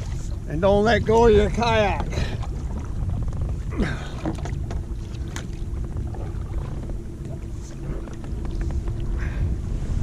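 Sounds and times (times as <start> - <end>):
faint hum: 0.0 - 10.0
low rumble: 0.0 - 10.0
water sloshing around a kayak: 0.0 - 10.0.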